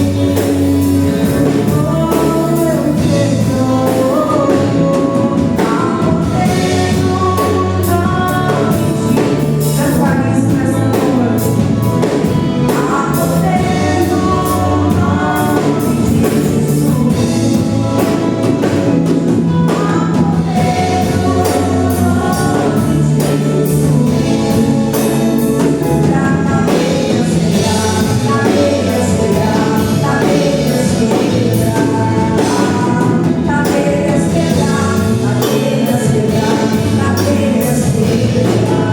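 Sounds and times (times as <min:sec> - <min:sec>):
band with drums: 0:00.0 - 0:38.9
voices singing gospel song: 0:00.0 - 0:38.9.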